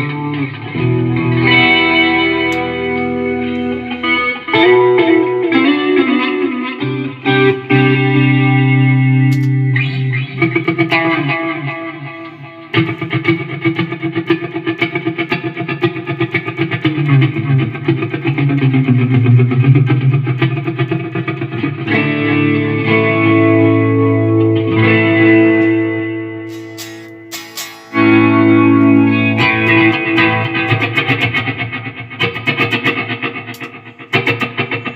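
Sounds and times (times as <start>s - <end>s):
electric guitar playing: 0.0s - 34.9s.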